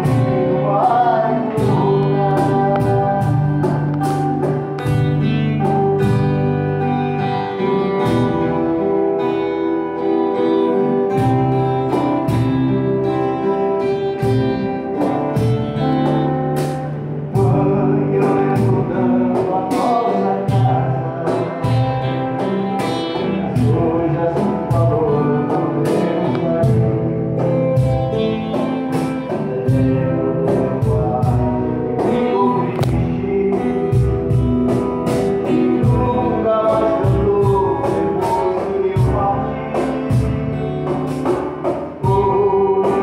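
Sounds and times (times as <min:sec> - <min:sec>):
acoustic guitar strummed: 0:00.0 - 0:43.0
cajon beats: 0:00.0 - 0:43.0
person singing: 0:00.0 - 0:43.0.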